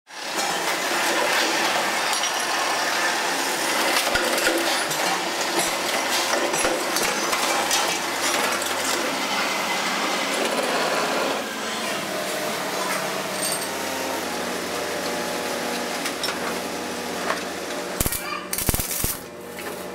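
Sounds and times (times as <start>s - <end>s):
harsh machine noise: 0.1s - 19.9s.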